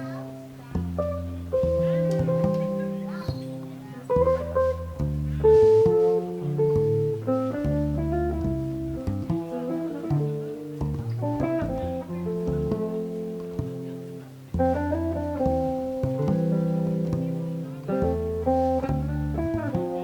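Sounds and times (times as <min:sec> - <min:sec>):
jazz guitar: 0:00.0 - 0:20.0
low bass notes: 0:00.0 - 0:20.0.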